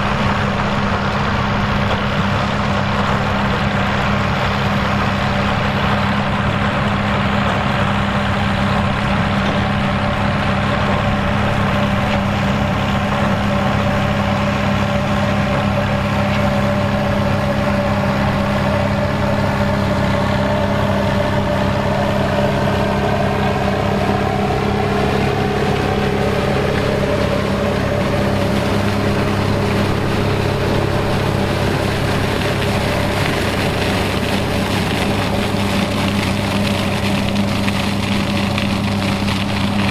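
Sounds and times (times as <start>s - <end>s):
high machine whine: 0.0s - 39.9s
tractor diesel engine under load: 0.0s - 39.9s.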